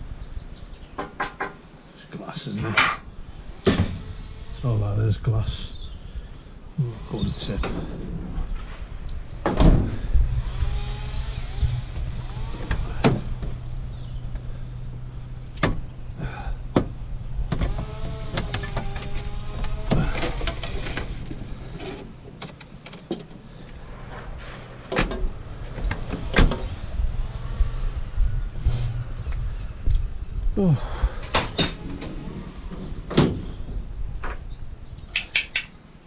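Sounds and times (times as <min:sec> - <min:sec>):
steady low hum: 0:01.7 - 0:35.1.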